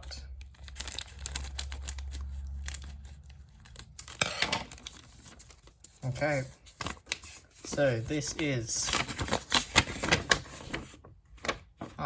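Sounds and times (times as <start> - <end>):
paper crinkling and rustling: 0.4 - 12.0.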